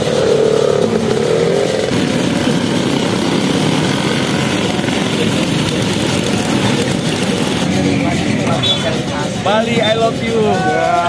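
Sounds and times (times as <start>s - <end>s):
many scooter engines running: 0.0s - 11.0s.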